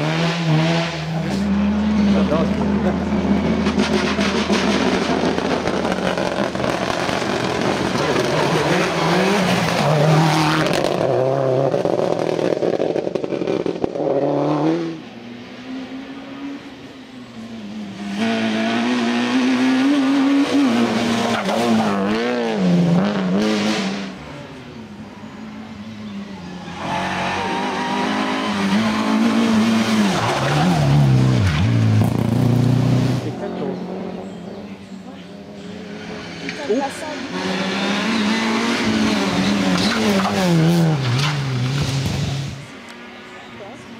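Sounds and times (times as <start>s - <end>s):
rally cars racing past: 0.0s - 43.9s.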